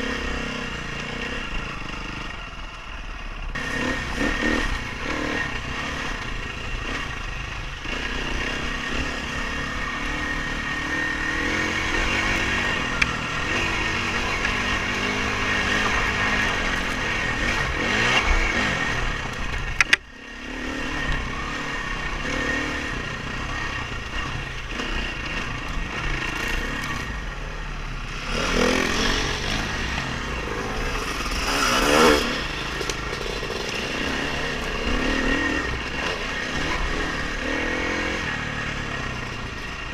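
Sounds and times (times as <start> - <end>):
dirt bike engine revving: 0.0 - 2.4, 3.4 - 39.9.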